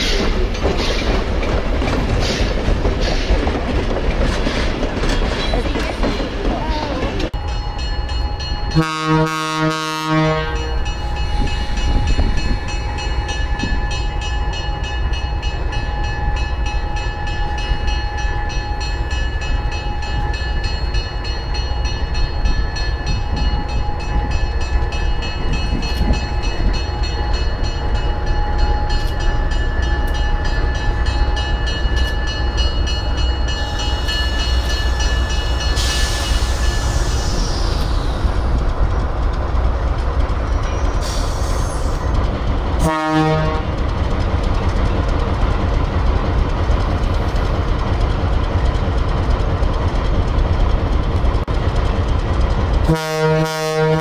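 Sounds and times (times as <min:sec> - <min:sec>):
train low rumble: 0:00.0 - 0:54.0.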